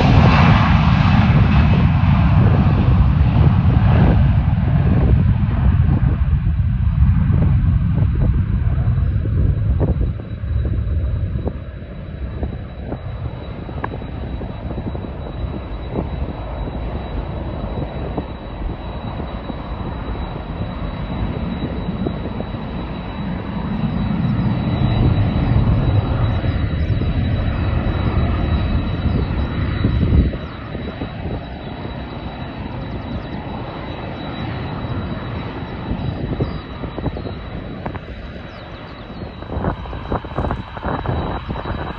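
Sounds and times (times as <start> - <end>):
jet engine rumble and whine: 0.0 - 41.9.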